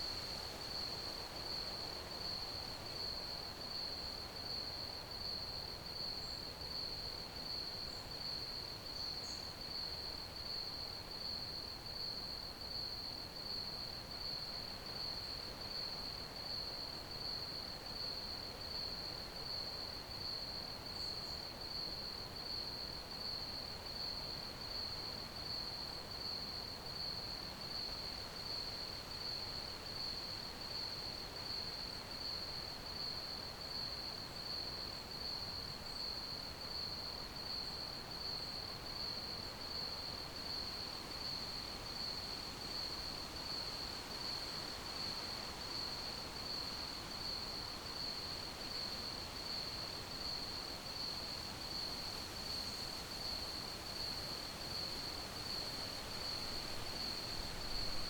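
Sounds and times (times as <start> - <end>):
faint background hiss: 0.0 - 58.0
crickets chirping: 7.4 - 11.4, 12.0 - 58.0.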